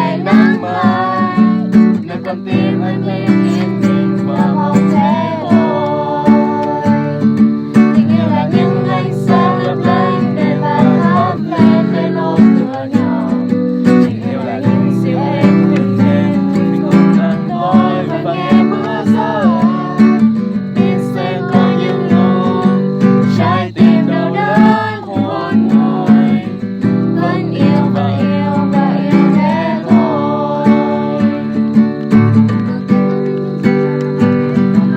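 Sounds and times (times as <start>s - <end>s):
acoustic guitar strumming chords: 0.0s - 34.9s.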